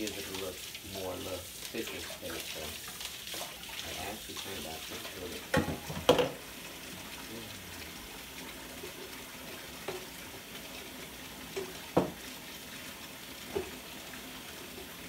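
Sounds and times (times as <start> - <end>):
faucet running into sink: 0.0 - 15.0.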